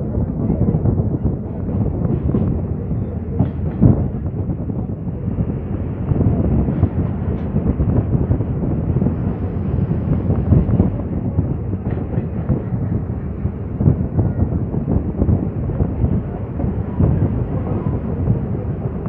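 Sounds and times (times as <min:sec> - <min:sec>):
train wheels rumbling and rattling: 0:00.0 - 0:19.0.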